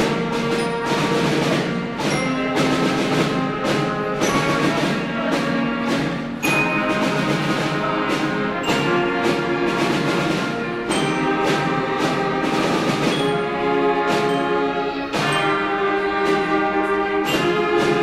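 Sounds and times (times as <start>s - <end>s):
concert band playing: 0.0s - 18.0s.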